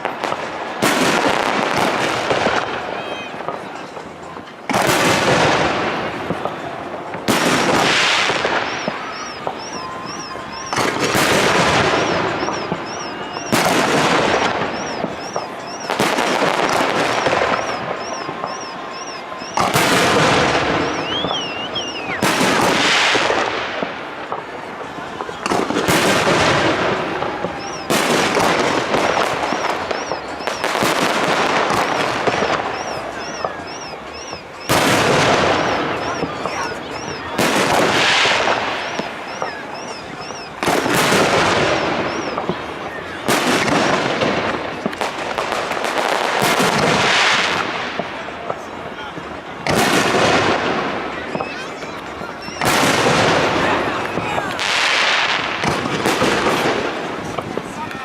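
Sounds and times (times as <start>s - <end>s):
fireworks bursting with crackle: 0.0s - 58.0s.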